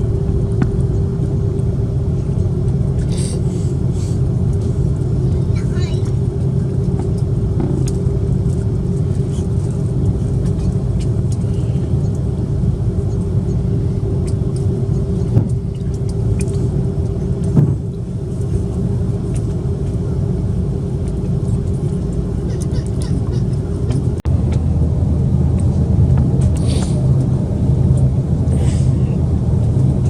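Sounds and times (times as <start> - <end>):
aircraft cabin rumble: 0.0 - 30.0
jet engines humming: 0.0 - 30.0.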